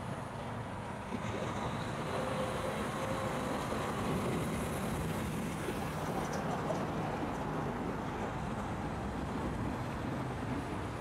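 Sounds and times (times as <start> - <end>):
heavy road traffic: 0.0 - 11.0.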